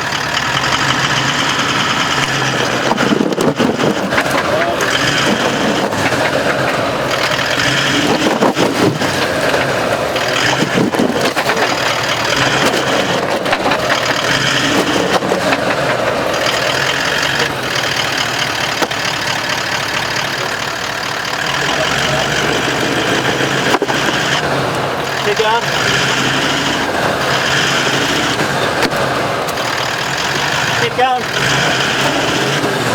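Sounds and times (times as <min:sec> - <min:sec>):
engine running under load: 0:00.0 - 0:32.9.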